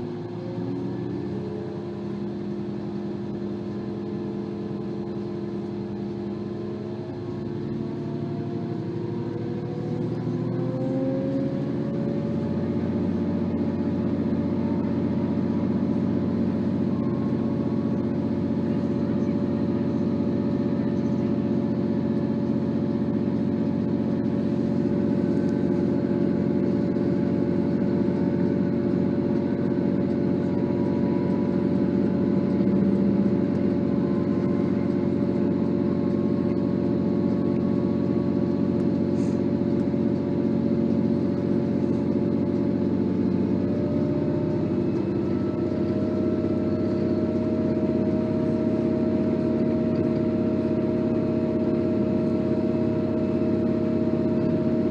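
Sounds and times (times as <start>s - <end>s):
diesel train engine droning: 0.0s - 54.9s.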